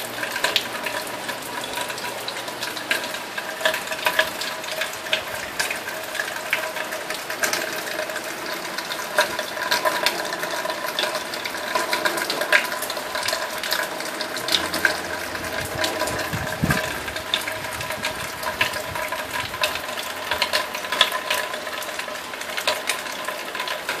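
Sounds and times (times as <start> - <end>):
steady rain pattering: 0.0 - 24.0.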